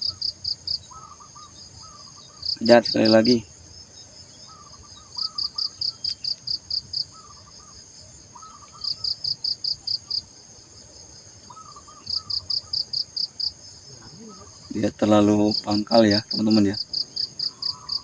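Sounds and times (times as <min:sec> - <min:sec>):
faint bird calls: 0:00.0 - 0:10.3, 0:11.3 - 0:18.0
insect chirping: 0:00.0 - 0:18.0.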